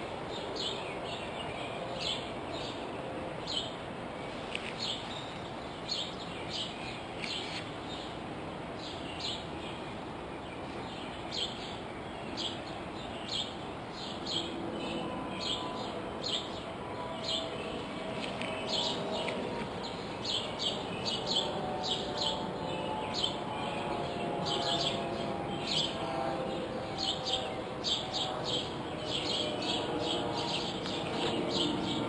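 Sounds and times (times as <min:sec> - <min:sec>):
outdoor ambience hiss: 0:00.0 - 0:32.0.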